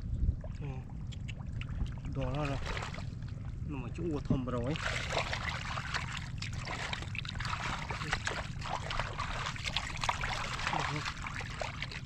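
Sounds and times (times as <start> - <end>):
water splashing in muddy pool: 0.5 - 3.4, 4.6 - 12.0.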